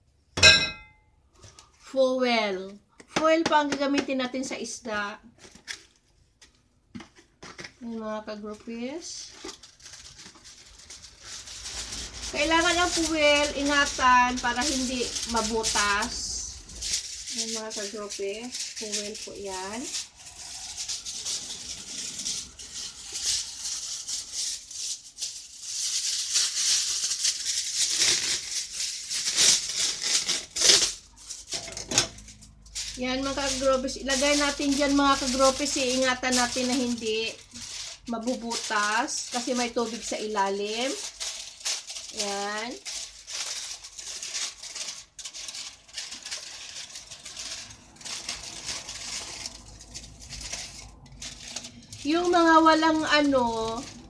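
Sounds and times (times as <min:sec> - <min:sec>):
aluminium foil crinkling: 0:03.8 - 0:54.0.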